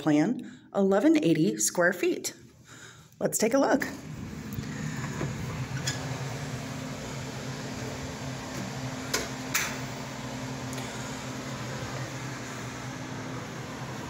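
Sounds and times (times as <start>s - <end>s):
fan humming: 0.0s - 14.0s.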